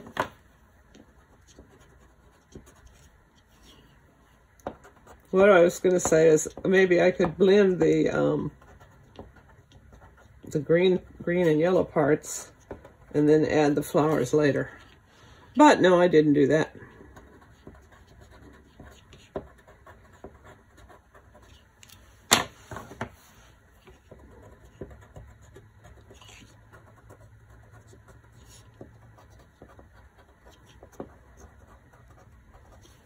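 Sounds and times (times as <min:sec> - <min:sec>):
crayon scratching on paper: 0:00.9 - 0:04.0, 0:04.6 - 0:15.0, 0:15.7 - 0:22.0, 0:23.8 - 0:33.0.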